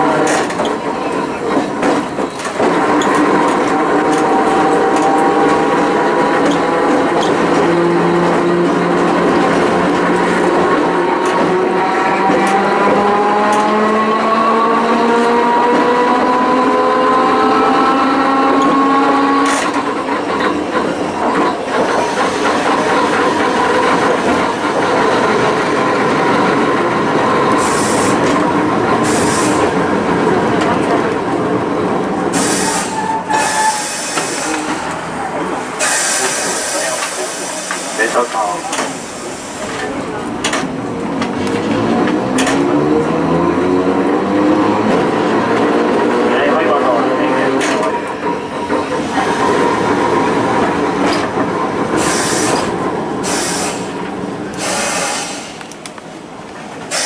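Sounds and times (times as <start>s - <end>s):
tram motor whine: 0.0s - 57.0s.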